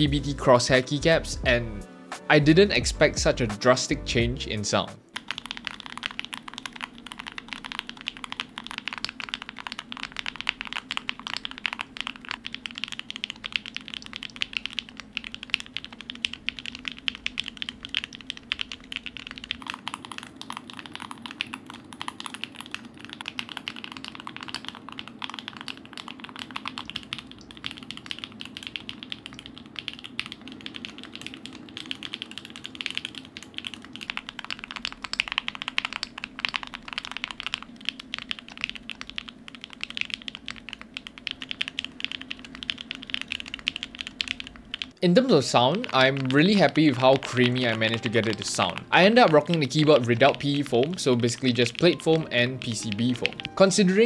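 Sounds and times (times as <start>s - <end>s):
mechanical keyboard typing: 5.1s - 54.0s.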